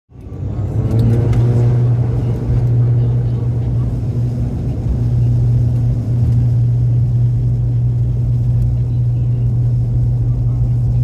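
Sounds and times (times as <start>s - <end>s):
turboprop engines humming in cabin: 0.1s - 11.0s.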